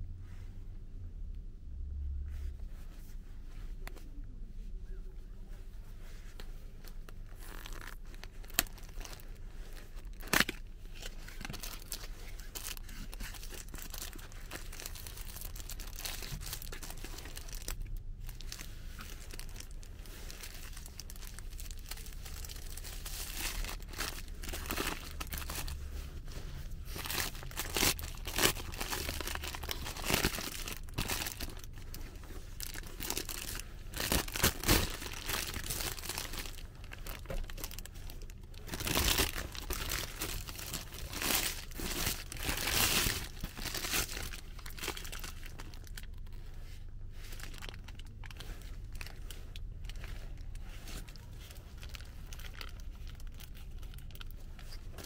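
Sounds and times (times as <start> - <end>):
paper wrapper crinkling: 6.4 - 55.0.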